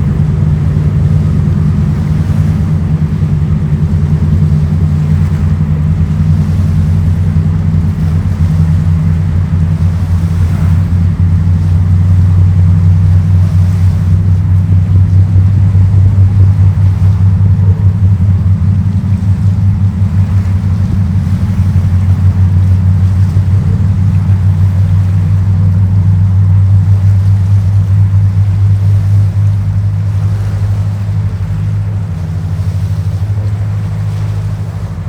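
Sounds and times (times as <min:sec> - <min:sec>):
boat engines droning: 0:00.0 - 0:35.0
water wash: 0:00.0 - 0:35.0
wind noise: 0:00.0 - 0:35.0.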